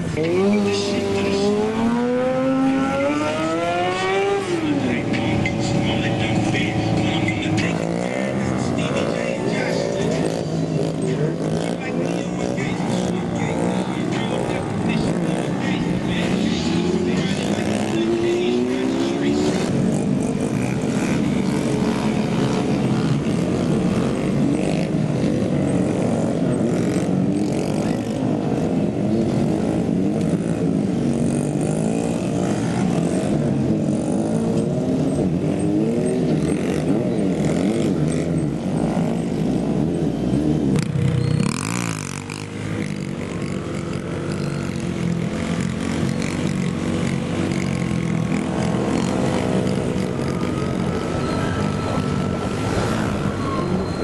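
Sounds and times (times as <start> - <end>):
mini-bike engines revving: 0.0 - 54.0.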